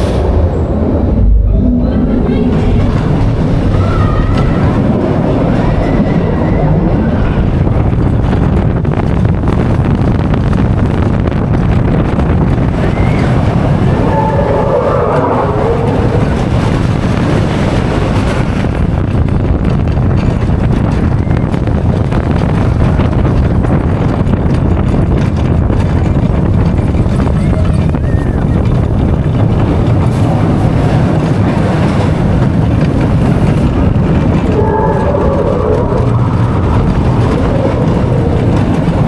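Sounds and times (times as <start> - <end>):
roller coaster rumbling on track: 0.0 - 39.0
wind rushing over microphone: 0.0 - 39.0.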